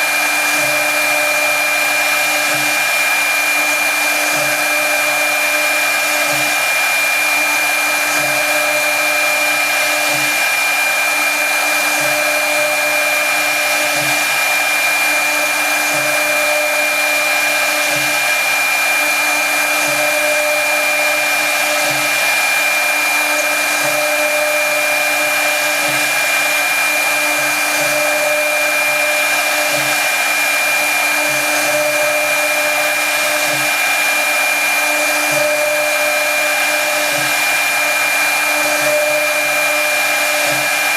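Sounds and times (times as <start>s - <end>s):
cnc router spindle whine: 0.0s - 40.9s.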